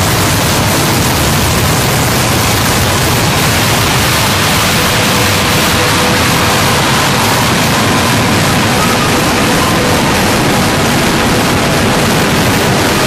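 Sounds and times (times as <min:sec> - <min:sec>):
harsh electronic noise music: 0:00.0 - 0:13.0.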